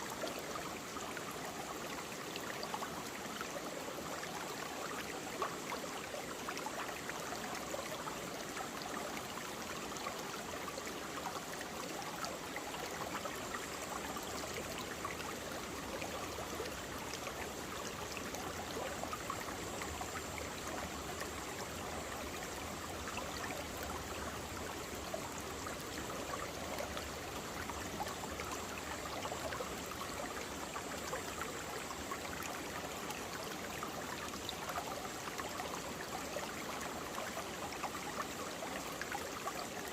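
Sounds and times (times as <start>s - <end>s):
stream babbling over rocks: 0.1s - 39.9s.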